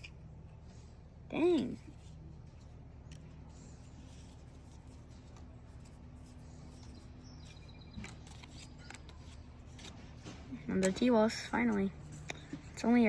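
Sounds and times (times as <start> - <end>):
low room hum: 0.0 - 13.0
cards rustling: 1.5 - 13.0.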